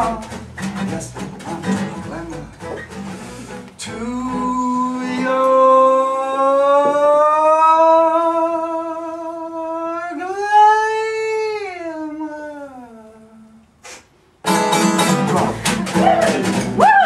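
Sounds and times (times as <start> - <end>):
acoustic band accompaniment: 0.0 - 11.7, 13.8 - 17.0.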